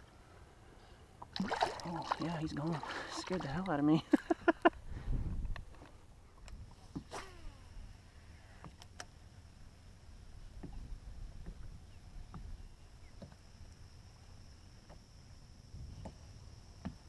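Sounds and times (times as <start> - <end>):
low rumble of wind and water: 0.0 - 17.0.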